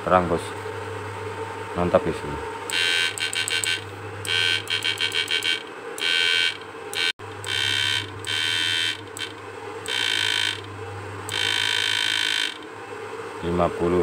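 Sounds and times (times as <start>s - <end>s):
inverter buzzing in bursts: 0.0s - 14.0s
steady low hum: 0.0s - 14.0s.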